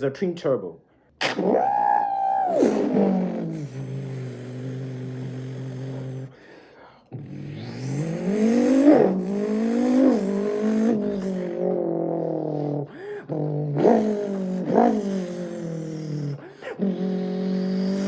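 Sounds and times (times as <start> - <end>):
man imitating engine revving: 1.2 - 6.4, 7.1 - 18.0.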